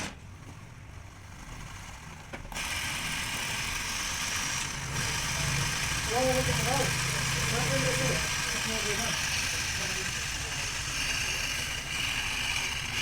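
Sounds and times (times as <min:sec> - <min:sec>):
low mechanical hum: 0:00.0 - 0:13.0
washing machine drum whirring: 0:00.0 - 0:13.0.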